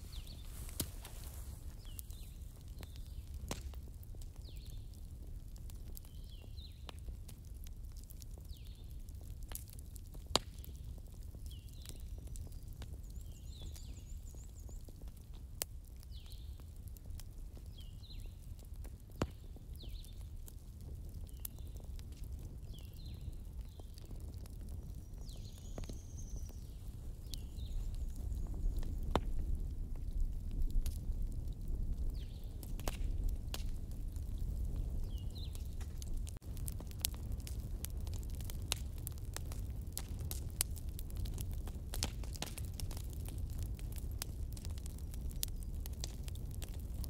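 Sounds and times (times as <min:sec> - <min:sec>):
sharp pops from burning logs: 0:00.0 - 0:47.0
wood fire crackling: 0:00.0 - 0:47.0.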